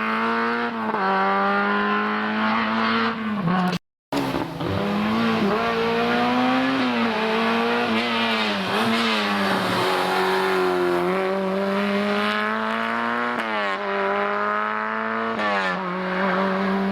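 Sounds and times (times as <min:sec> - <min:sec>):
rally car engine revving: 0:00.0 - 0:16.9.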